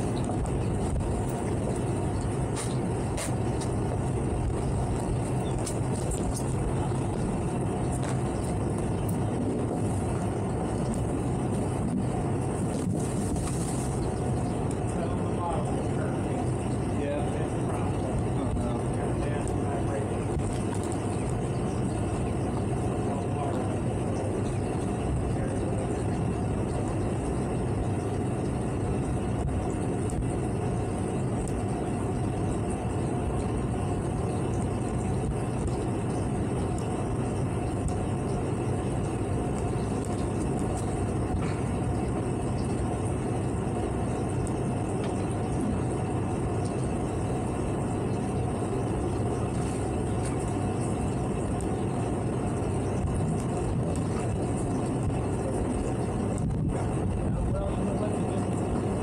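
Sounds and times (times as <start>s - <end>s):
boat engine droning: 0.0s - 59.0s
faint high whine: 0.0s - 59.0s.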